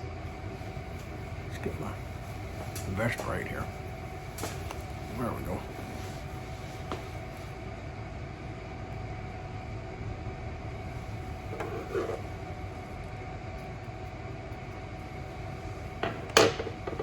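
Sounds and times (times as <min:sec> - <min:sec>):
faint constant tones: 0:00.0 - 0:17.0
low mechanical hum: 0:00.0 - 0:17.0.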